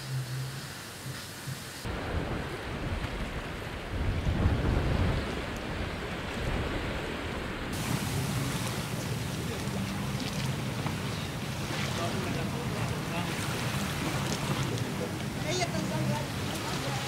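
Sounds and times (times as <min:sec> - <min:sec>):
water lapping at shore: 0:00.0 - 0:17.0
wind buffeting microphone: 0:01.9 - 0:17.0.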